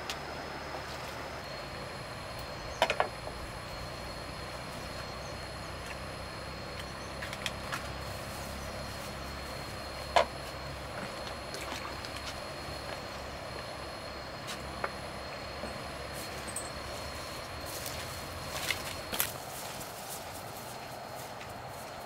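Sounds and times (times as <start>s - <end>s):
faint high whine: 0.0s - 22.0s
outdoor background noise: 0.0s - 22.0s.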